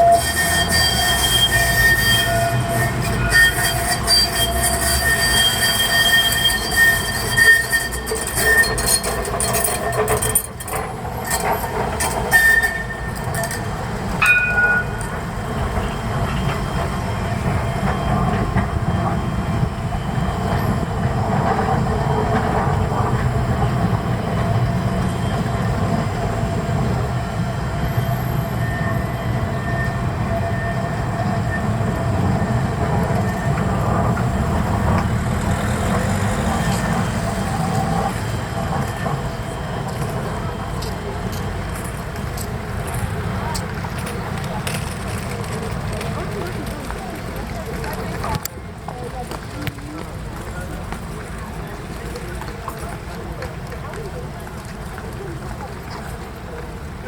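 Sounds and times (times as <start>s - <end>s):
tram wheels squealing: 0.0s - 57.0s.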